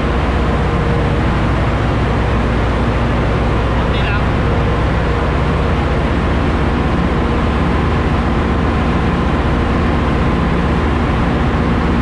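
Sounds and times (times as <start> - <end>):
engine-room machinery humming: 0.0 - 12.0.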